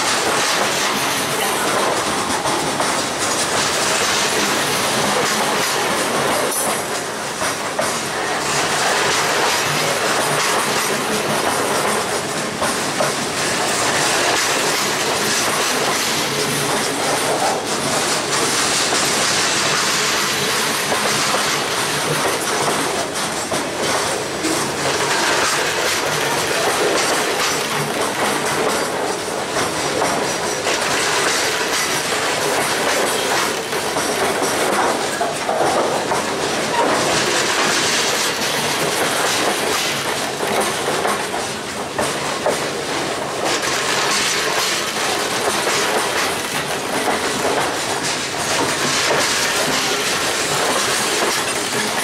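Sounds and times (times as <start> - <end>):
freight train rumbling: 0.0 - 52.0
wheels clacking over rail joints: 0.0 - 52.0.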